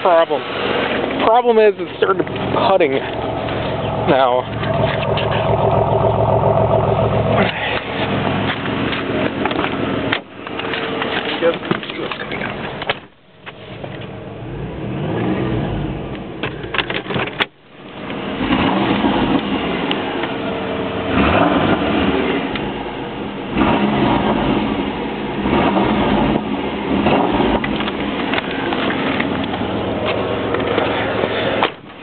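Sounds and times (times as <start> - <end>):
car engine revving: 0.3 - 13.0, 13.6 - 17.2, 17.8 - 32.0.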